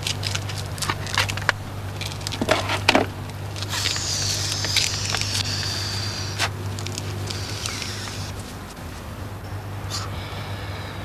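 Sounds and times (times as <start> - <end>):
clicks and crackles: 0.0 - 8.9
steady low hum: 0.0 - 11.0.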